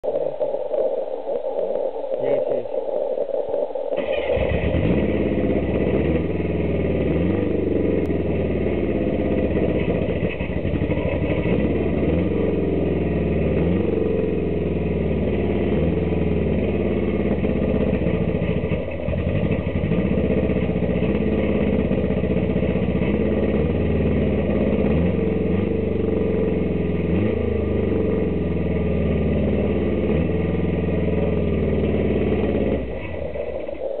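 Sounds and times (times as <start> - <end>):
engine revving: 4.0 - 33.7.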